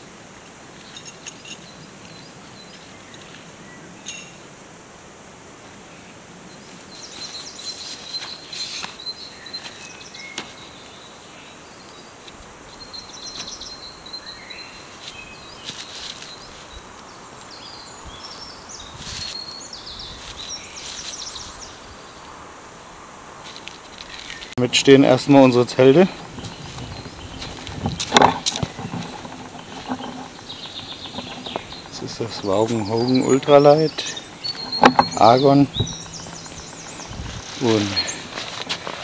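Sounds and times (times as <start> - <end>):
steady outdoor hiss: 0.0 - 39.0
birds chirping and trilling: 0.8 - 4.5, 6.0 - 22.3, 23.8 - 39.0.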